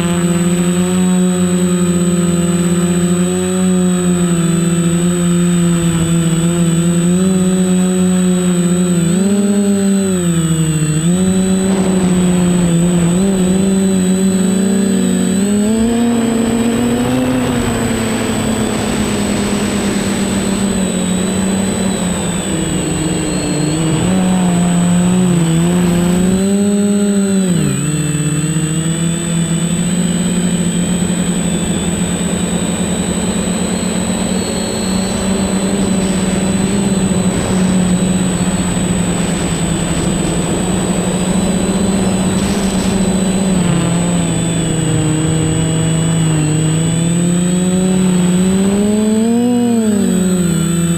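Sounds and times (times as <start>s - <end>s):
drone motors whining: 0.0s - 50.9s.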